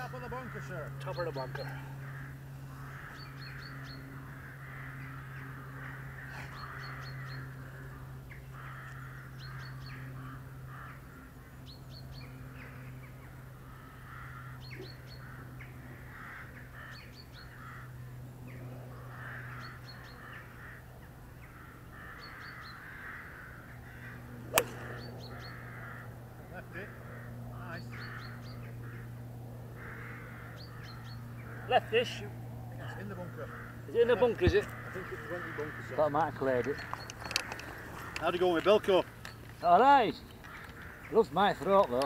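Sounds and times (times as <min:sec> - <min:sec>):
birds harsh calls: 0:00.0 - 0:42.0
steady low hum: 0:00.0 - 0:42.0.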